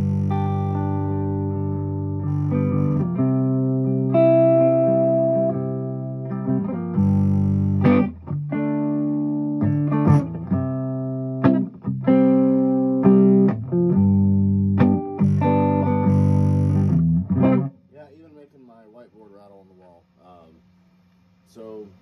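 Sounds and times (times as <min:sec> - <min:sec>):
electric guitar chords strummed: 0:00.0 - 0:17.9.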